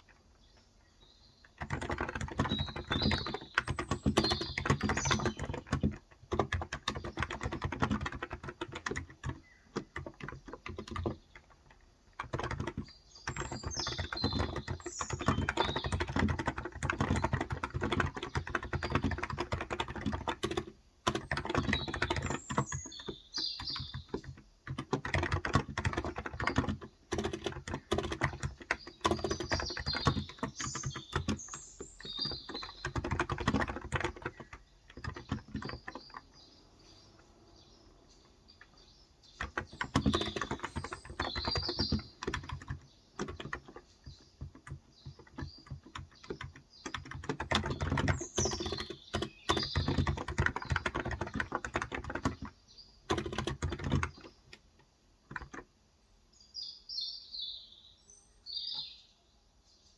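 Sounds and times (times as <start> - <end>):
birds chirping: 0.0 - 59.9
keyboard typing: 1.4 - 36.5, 38.2 - 55.7.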